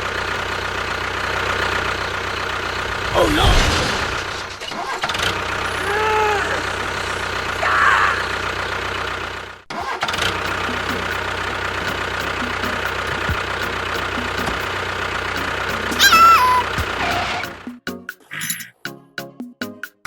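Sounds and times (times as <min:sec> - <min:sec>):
engine running: 0:00.0 - 0:17.8.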